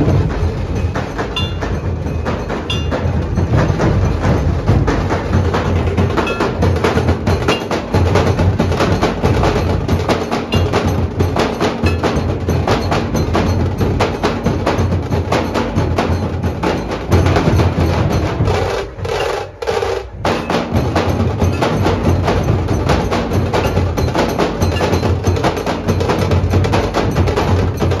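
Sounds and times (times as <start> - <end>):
dhol drums beating fast: 0.0 - 28.0
tasha drums rattling: 0.0 - 28.0.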